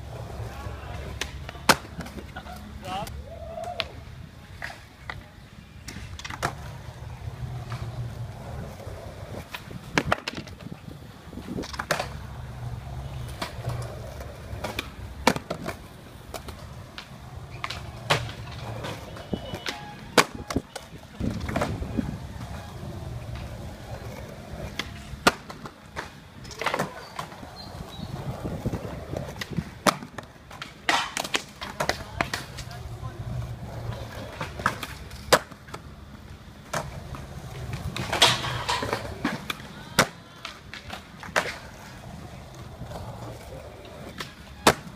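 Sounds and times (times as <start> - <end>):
skateboard clacking on concrete: 0.0 - 44.9
skateboard wheels rolling on concrete: 0.0 - 44.9.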